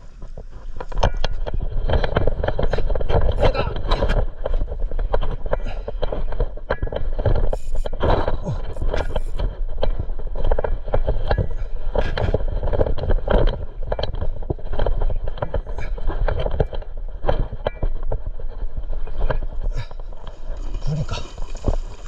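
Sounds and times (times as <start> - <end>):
knocks and scrapes: 0.1 - 22.0.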